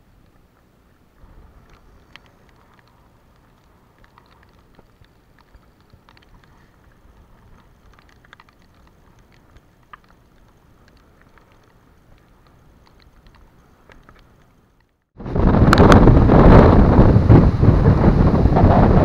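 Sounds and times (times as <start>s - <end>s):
low wind rumble on microphone: 0.0s - 14.1s, 15.2s - 19.0s
faint ticking and crackling: 0.0s - 16.6s.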